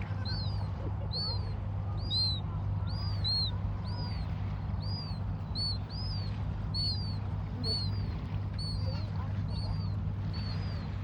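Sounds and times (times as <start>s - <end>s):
bird chirping: 0.0s - 11.0s
low rumble: 0.0s - 11.0s.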